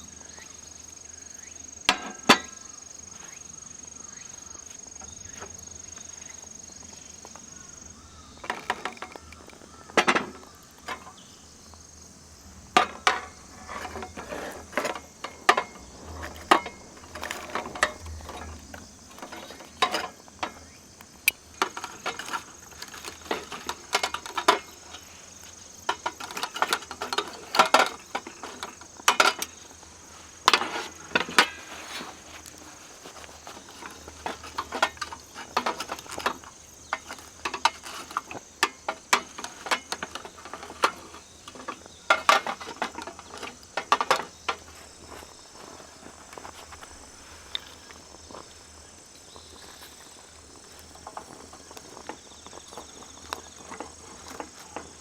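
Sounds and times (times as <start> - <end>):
crickets chirring: 0.0 - 55.0
metal camp gear clinking: 1.7 - 3.4, 4.0 - 11.4, 12.4 - 55.0.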